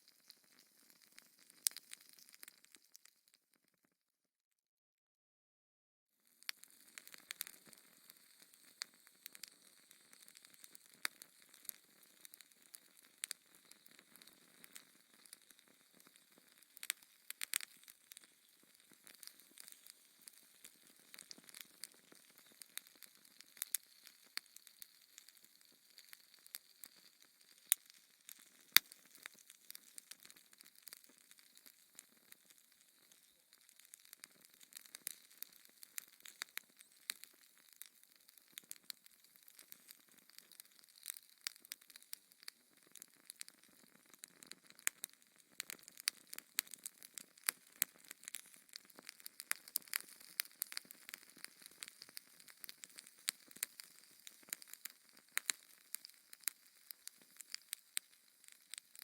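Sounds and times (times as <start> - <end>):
wood fire crackling: 0.0 - 3.1, 6.4 - 59.0.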